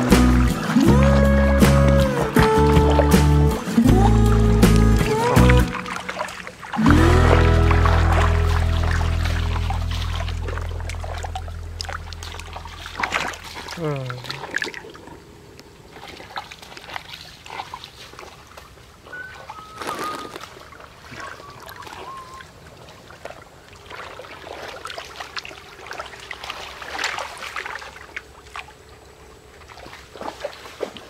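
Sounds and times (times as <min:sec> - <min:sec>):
trickle of flowing water: 0:00.0 - 0:31.0
water splashing and sloshing: 0:00.0 - 0:31.0.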